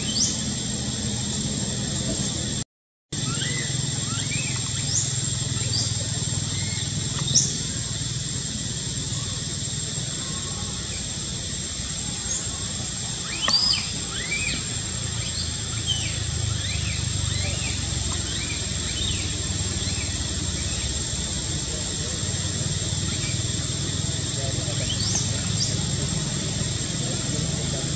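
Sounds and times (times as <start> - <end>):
constant high whine: 0.0 - 2.6, 3.2 - 27.9
steady background noise: 0.0 - 2.6, 3.2 - 27.9.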